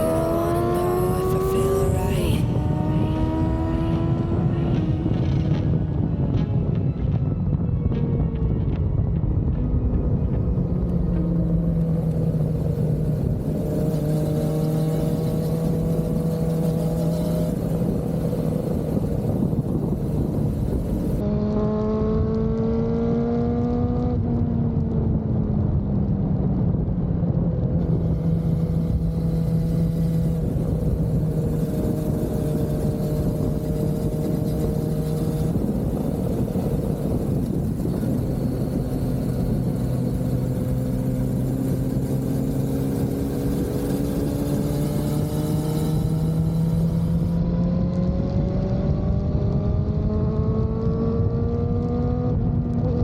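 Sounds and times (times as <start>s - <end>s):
motorcycle engine revving: 0.0s - 7.4s, 9.7s - 25.8s, 26.6s - 53.0s
wind and road noise: 0.0s - 53.0s.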